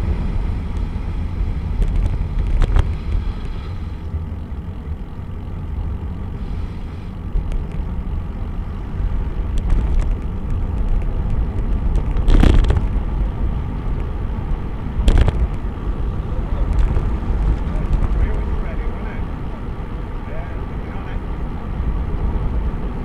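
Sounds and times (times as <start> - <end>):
wind buffeting microphone: 0.0 - 4.7, 7.2 - 23.0.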